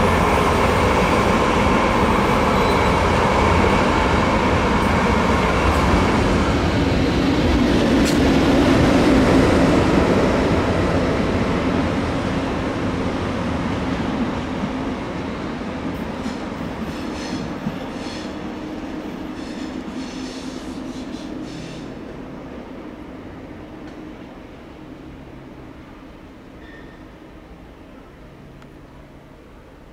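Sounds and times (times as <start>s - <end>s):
train rolling past: 0.0s - 29.9s.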